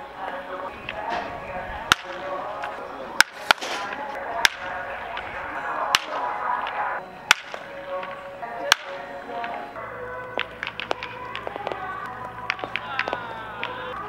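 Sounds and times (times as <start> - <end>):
baseball bat cracks: 0.9 - 14.0.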